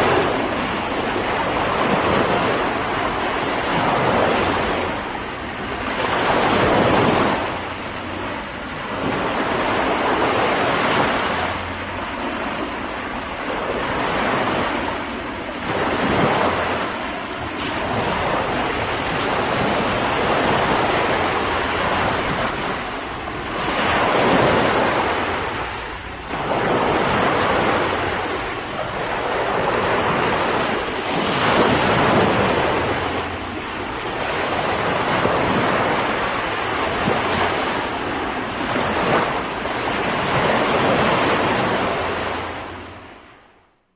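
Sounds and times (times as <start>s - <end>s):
waves breaking on shore: 0.0s - 43.7s
wind: 0.0s - 43.9s.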